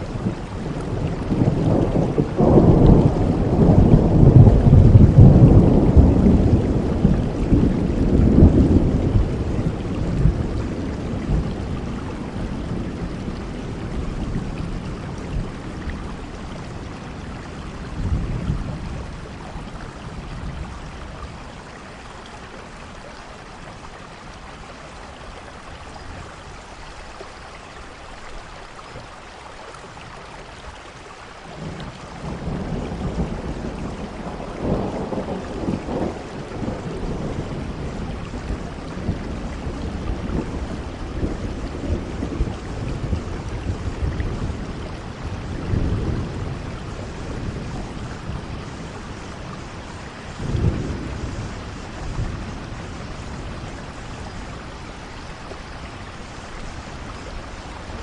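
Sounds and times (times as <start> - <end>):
thunder rumbling: 0.0 - 26.6, 31.5 - 58.0
steady rain hiss: 0.0 - 58.0.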